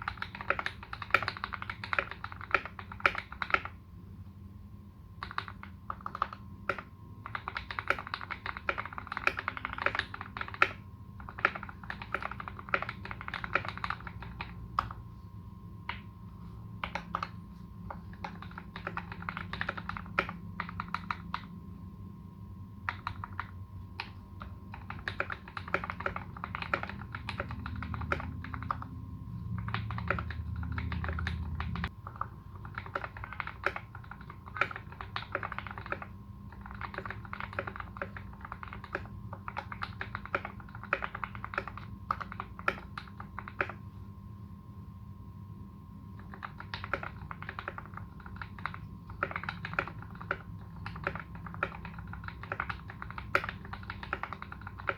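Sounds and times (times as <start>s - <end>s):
mechanical keyboard typing: 0.0s - 3.8s, 5.2s - 15.0s, 16.8s - 21.6s, 22.8s - 43.8s, 46.2s - 54.9s.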